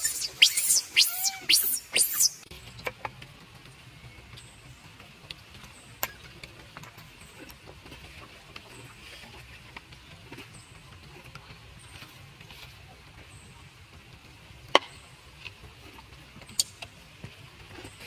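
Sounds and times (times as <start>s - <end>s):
light ticks and rustles: 2.4s - 18.0s.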